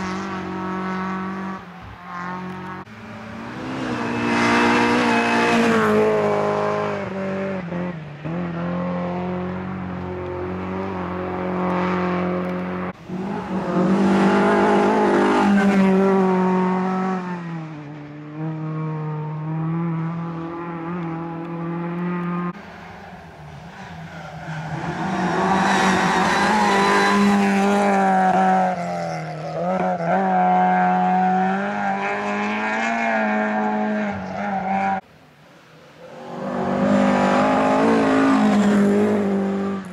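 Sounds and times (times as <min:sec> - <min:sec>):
rally car engines at full throttle: 0:00.0 - 0:39.9.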